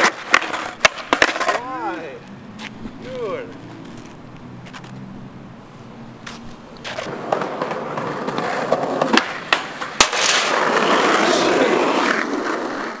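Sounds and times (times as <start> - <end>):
skateboard clacking: 0.0 - 5.0, 6.2 - 13.0
skateboard wheels rolling on concrete: 0.0 - 13.0.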